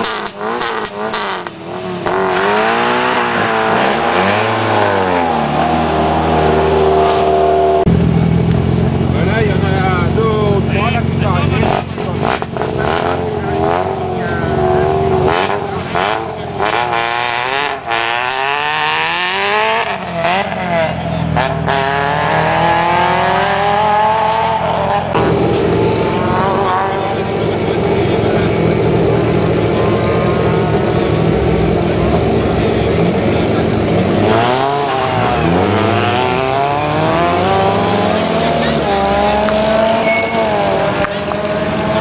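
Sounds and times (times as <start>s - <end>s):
car engines idling: 0.0s - 42.0s
car revving: 0.0s - 42.0s
rally car accelerating: 0.0s - 42.0s.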